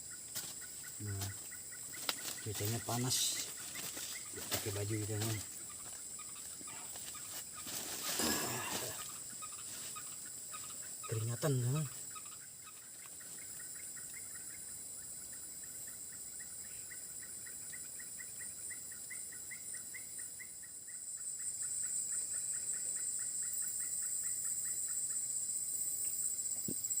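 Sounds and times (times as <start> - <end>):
night insects droning: 0.0 - 27.0.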